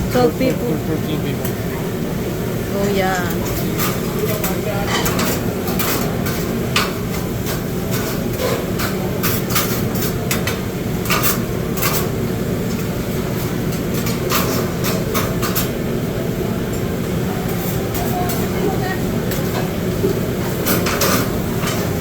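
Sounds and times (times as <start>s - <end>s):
busy kitchen din: 0.0s - 22.0s.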